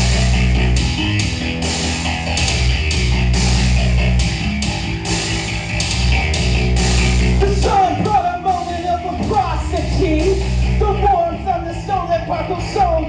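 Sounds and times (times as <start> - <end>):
punk hip-hop backing track: 0.0 - 13.0.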